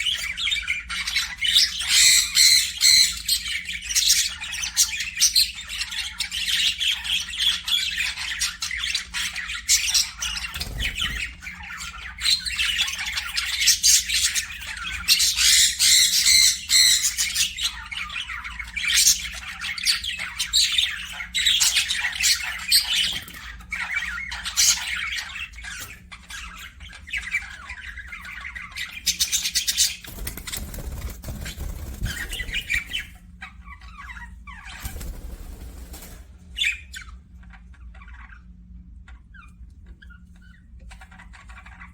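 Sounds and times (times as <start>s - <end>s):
parakeets chirping and chattering: 0.0s - 41.9s.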